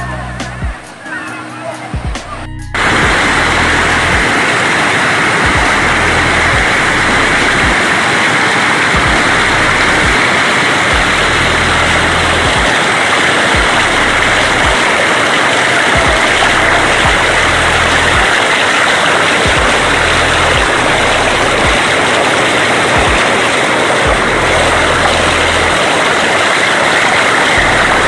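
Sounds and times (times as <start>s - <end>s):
floodwater rushing over a weir: 2.8s - 28.0s.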